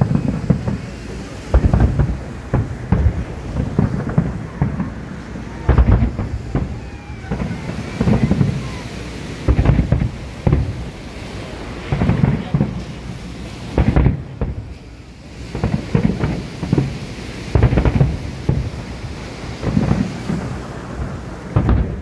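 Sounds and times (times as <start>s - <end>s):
fireworks booming: 0.0s - 22.0s
fireworks crackle: 0.0s - 22.0s.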